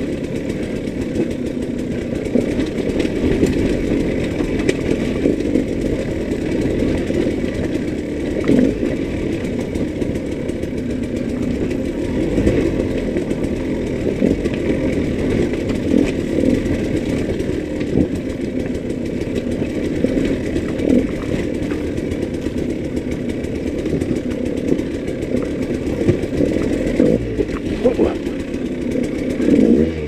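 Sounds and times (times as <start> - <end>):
knocks and rattles over rock: 0.0 - 30.0
two-stroke motorcycle engine running: 0.0 - 30.0.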